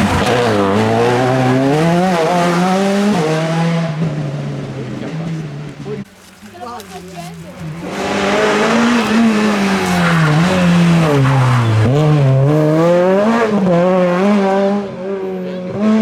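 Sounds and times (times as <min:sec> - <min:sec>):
rally car engine passing: 0:00.0 - 0:06.1, 0:06.8 - 0:16.0.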